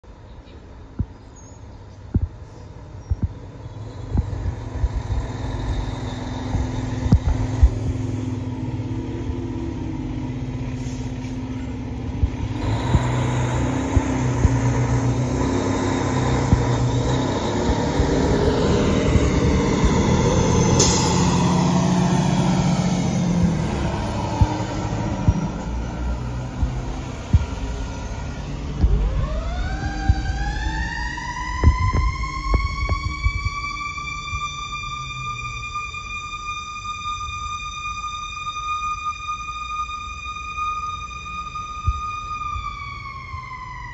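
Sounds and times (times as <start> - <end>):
fire truck diesel engine: 2.8 - 43.9.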